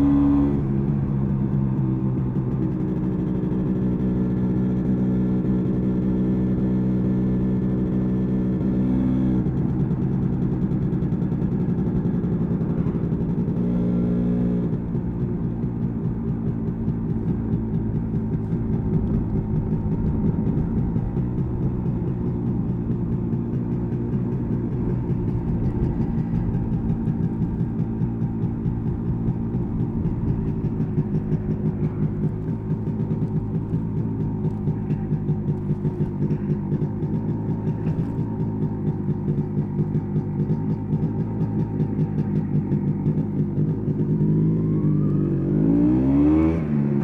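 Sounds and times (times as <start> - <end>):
two-stroke motorcycle engine running: 0.0 - 47.0.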